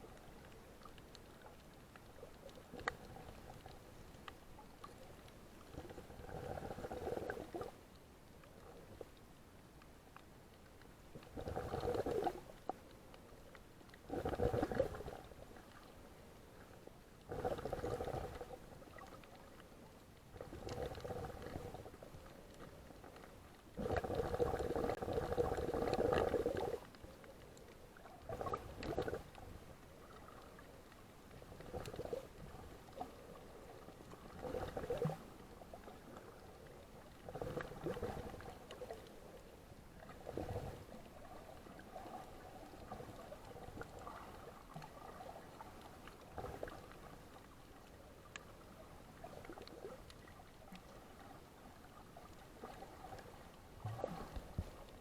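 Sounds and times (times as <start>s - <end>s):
water bubbling and gurgling: 0.0s - 7.9s, 11.1s - 55.0s.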